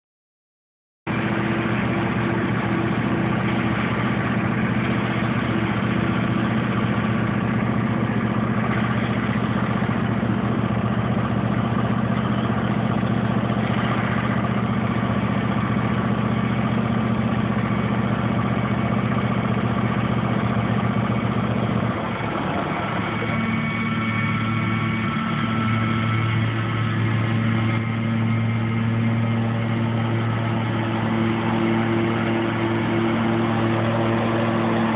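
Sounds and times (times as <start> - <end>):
lawn mower engine running: 1.1 - 34.9.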